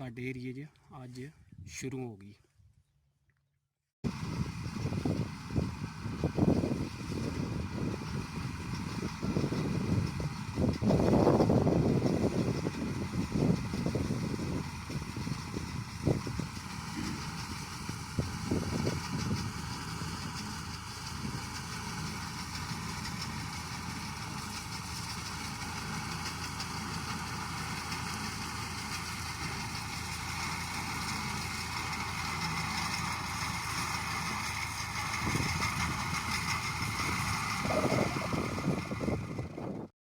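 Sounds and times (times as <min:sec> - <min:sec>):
tractor engine running: 0:04.1 - 0:39.9.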